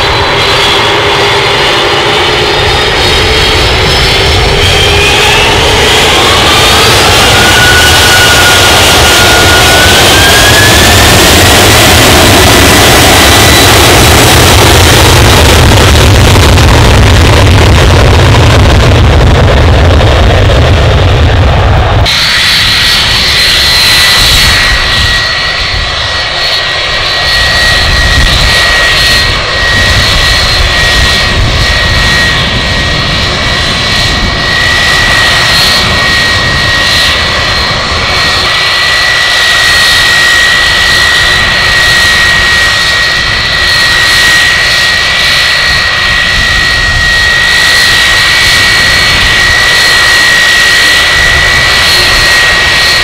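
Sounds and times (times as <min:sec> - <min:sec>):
jet engines at taxi thrust: 0:00.0 - 0:53.0.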